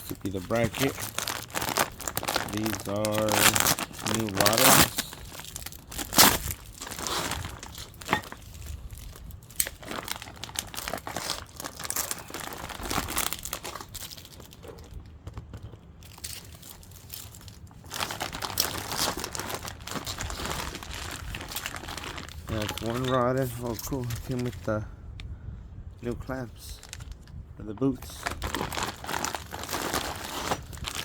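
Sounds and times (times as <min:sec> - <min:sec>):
packaging crinkling and tearing: 0:00.0 - 0:24.7, 0:26.7 - 0:31.0.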